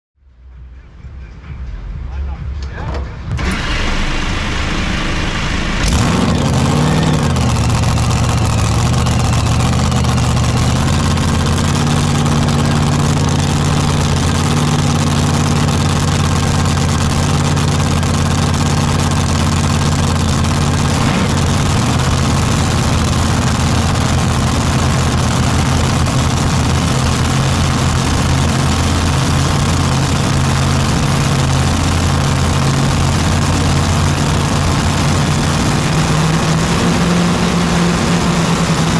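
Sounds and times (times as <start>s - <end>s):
tractor engine revving and idling: 3.1s - 38.9s.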